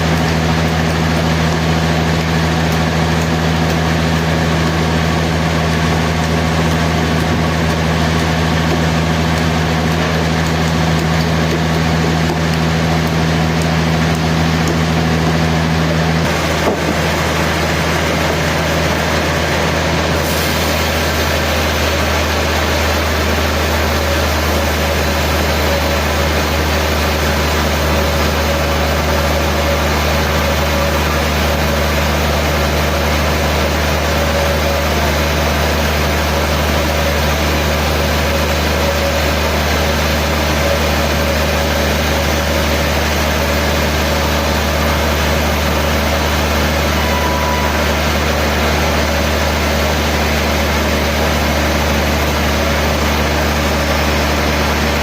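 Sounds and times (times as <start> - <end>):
deep machinery hum: 0.0 - 55.0.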